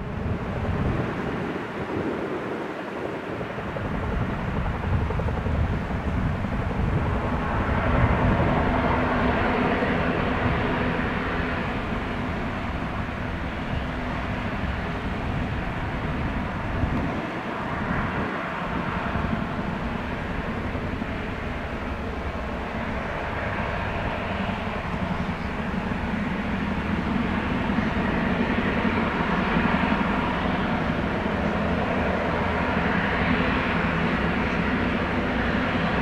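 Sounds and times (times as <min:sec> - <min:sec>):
aircraft turbine engines humming: 0:00.0 - 0:36.0.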